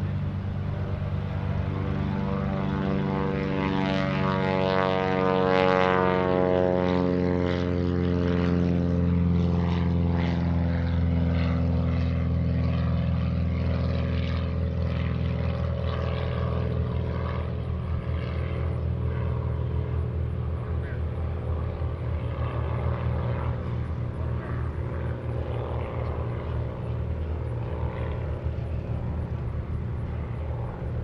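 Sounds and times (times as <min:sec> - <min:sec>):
propeller plane engine drone: 0:00.0 - 0:31.0.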